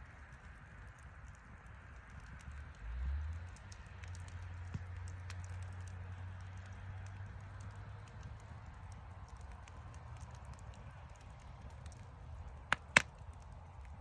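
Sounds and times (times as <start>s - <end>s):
wood fire crackling: 0.0s - 14.0s
sharp pops and clicks: 0.8s - 14.0s.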